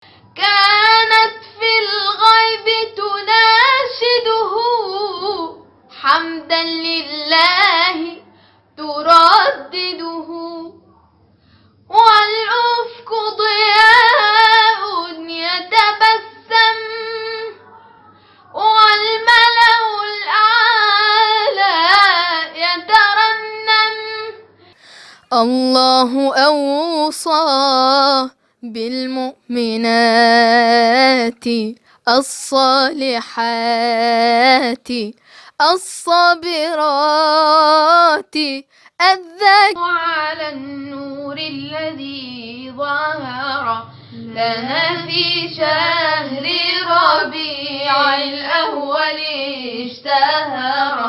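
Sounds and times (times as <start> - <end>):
girl singing devotional chant: 0.0 - 11.1, 11.8 - 51.0.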